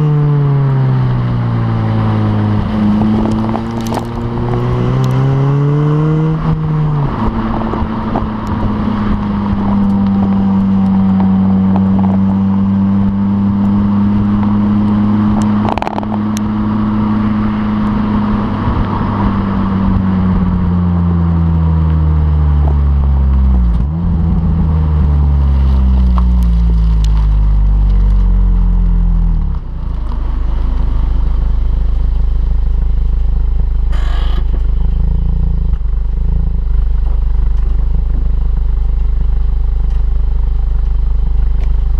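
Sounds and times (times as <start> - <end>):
car engine exhaust revving: 0.0 - 41.9.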